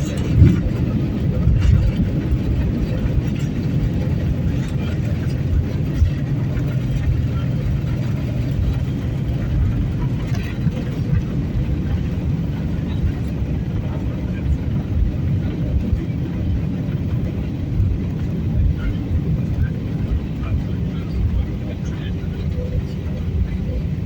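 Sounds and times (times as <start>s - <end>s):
faint voices: 0.0s - 24.0s
low vehicle rumble: 0.0s - 24.0s.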